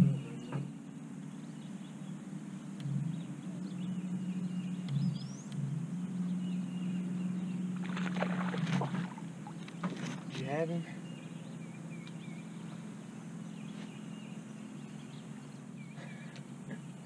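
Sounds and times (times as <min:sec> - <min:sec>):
electric trolling motor humming: 0:00.0 - 0:17.0.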